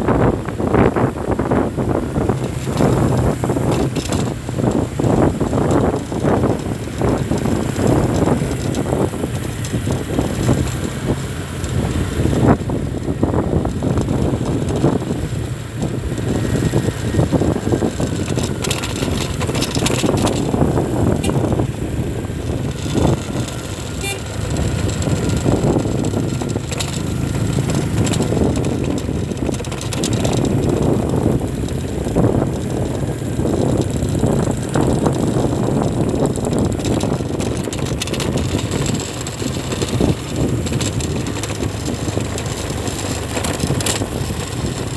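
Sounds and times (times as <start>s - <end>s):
traffic rumble: 0.0s - 44.9s.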